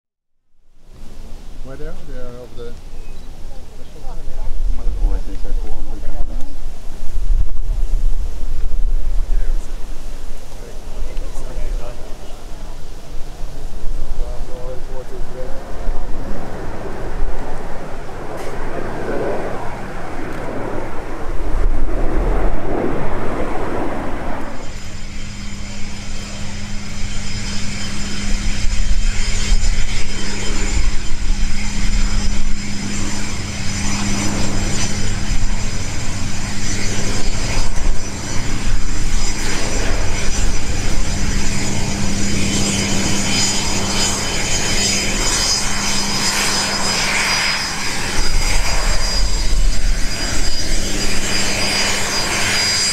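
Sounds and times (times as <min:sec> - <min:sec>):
jet engine humming and whining: 0:00.6 - 0:52.9
jet flying overhead: 0:00.7 - 0:52.9.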